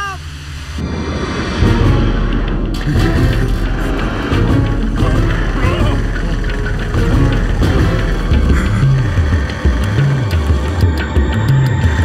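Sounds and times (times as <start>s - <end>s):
film soundtrack music: 0.0s - 12.0s
vehicle sound effects: 0.0s - 12.0s.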